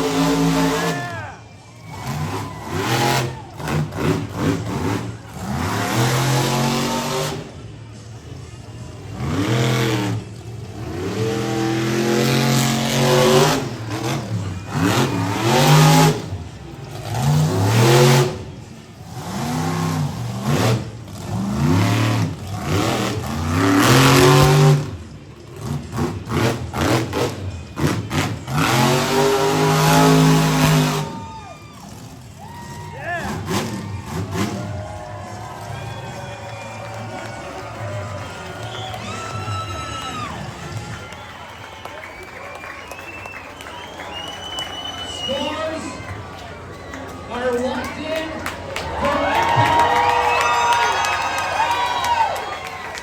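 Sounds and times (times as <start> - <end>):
monster truck engine revving: 0.0 - 53.0.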